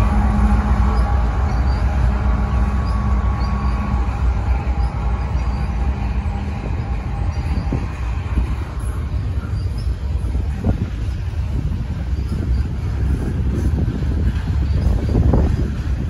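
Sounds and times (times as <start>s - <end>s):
diesel locomotive engine drone: 0.0s - 16.0s
freight cars rolling on rails: 0.0s - 16.0s
locomotive hum: 0.0s - 16.0s.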